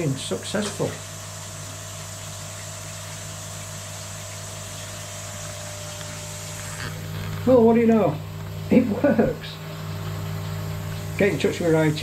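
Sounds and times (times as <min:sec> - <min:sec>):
pond pump humming and hissing: 0:00.0 - 0:12.0.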